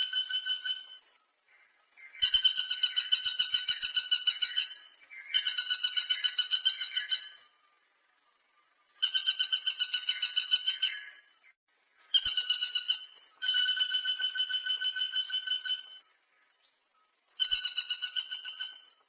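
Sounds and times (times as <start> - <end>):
woodpecker rattling call: 0.0 - 7.5, 9.0 - 16.7, 17.3 - 19.0.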